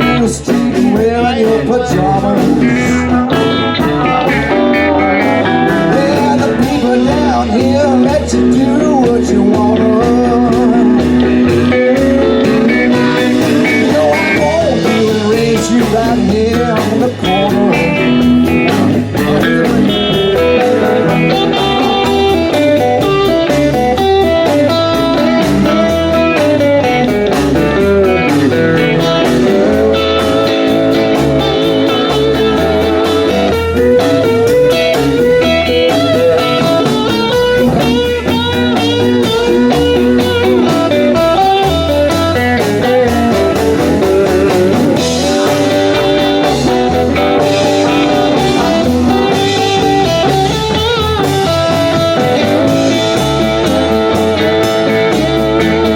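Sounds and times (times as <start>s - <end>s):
blues band playing: 0.0s - 55.9s
electric guitar lead with bends: 0.0s - 55.9s.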